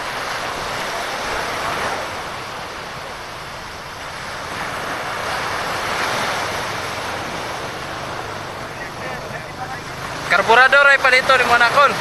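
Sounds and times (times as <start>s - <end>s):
small waves washing onto beach: 0.0s - 12.0s
wind rush on microphone: 0.0s - 12.0s.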